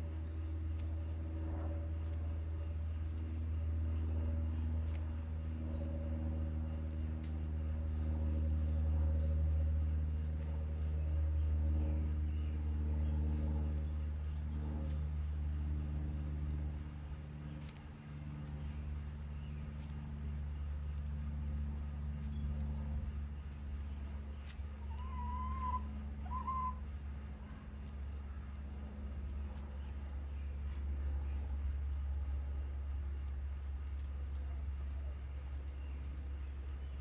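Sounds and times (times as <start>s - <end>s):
motor engine running: 0.0s - 37.0s.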